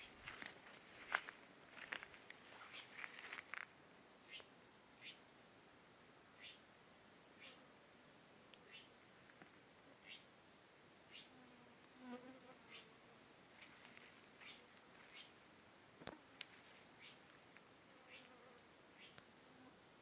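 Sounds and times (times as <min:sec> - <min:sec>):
insect chorus buzzing and chirping: 0:00.0 - 0:20.0.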